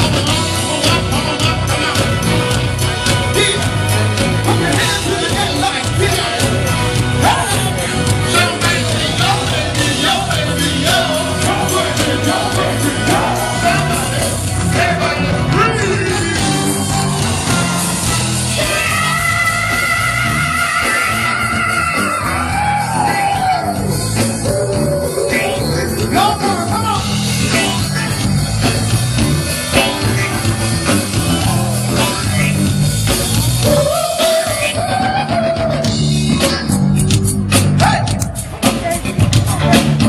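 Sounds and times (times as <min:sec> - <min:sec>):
live funk band playing: 0:00.0 - 0:40.0.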